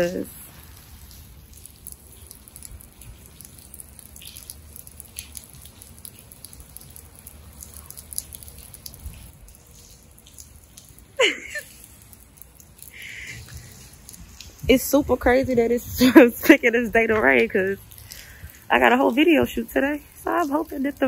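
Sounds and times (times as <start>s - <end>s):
rain pattering on pavement: 0.0s - 21.0s.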